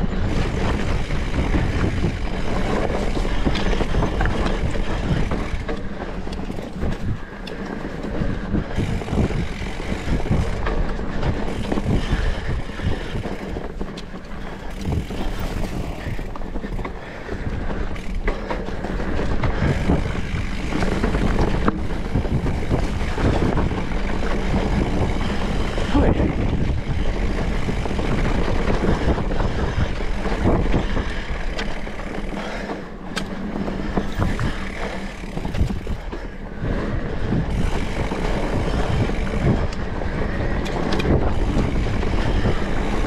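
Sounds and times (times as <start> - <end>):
bike knocking and rattling: 0.0 - 43.0
tyres rumbling over dirt: 0.0 - 43.0
wind buffeting microphone: 0.0 - 43.0.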